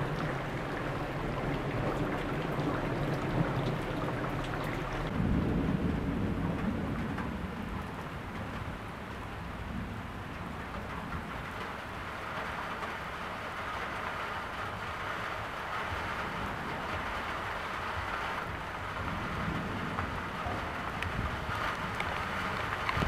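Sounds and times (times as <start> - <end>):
low rumble of thunder: 0.0 - 13.5, 14.5 - 23.0
steady rain falling: 0.0 - 23.0.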